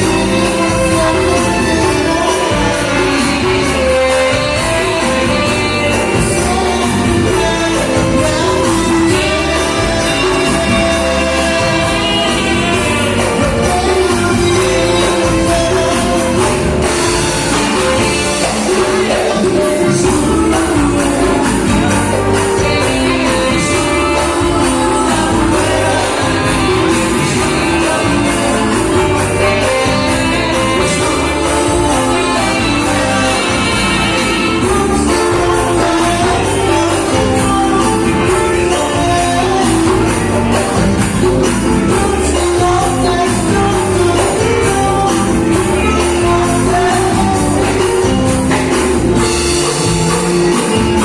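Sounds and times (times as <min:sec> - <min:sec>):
band music with singer: 0:00.0 - 0:51.0
steady percussion beat: 0:00.0 - 0:51.0.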